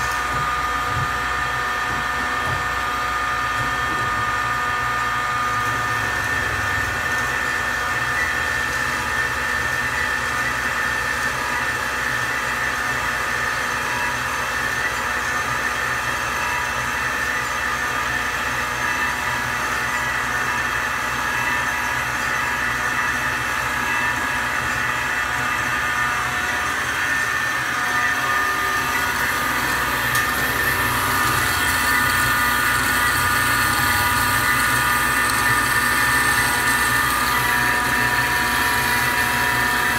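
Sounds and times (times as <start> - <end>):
band saw humming with high whine: 0.0 - 39.9.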